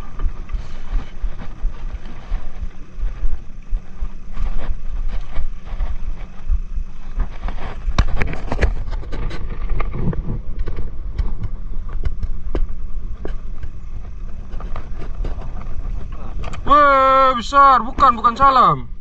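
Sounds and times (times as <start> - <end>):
low rumble of wind and sea: 0.0 - 19.0.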